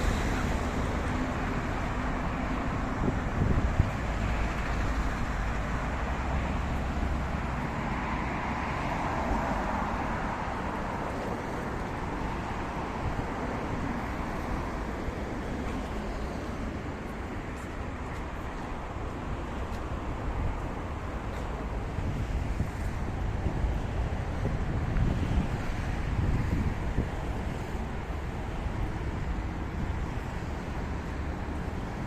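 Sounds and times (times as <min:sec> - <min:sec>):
cars passing: 0:00.0 - 0:32.0
low traffic rumble: 0:00.0 - 0:32.0.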